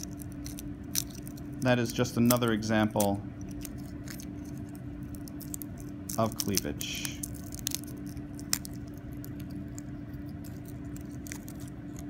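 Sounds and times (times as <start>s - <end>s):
mica sheets crackling: 0.0s - 12.0s.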